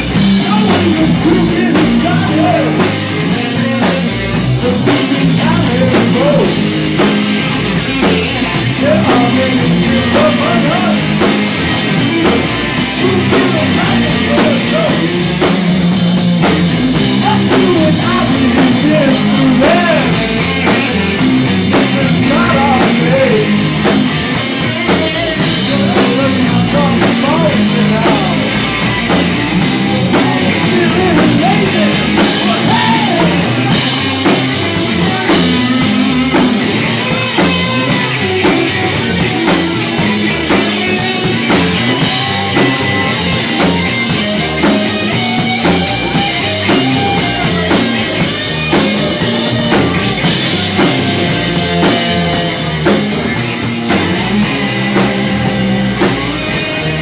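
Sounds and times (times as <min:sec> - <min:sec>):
bass guitar: 0:00.0 - 0:57.0
drums: 0:00.0 - 0:57.0
electric guitar lead with bending notes: 0:00.0 - 0:57.0.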